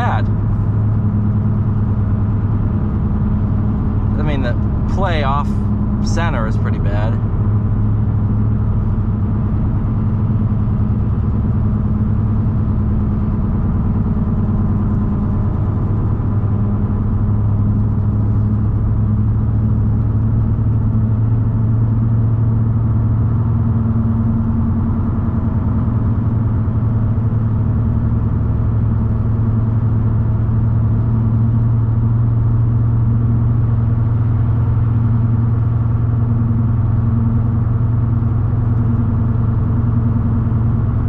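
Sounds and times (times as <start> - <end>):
road and tyre noise: 0.0 - 41.0
truck engine low drone: 0.0 - 41.0.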